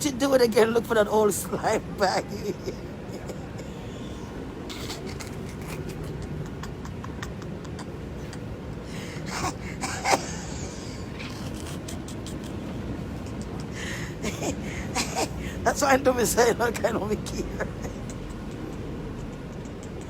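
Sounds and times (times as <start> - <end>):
subway car rumbling: 0.0 - 20.0.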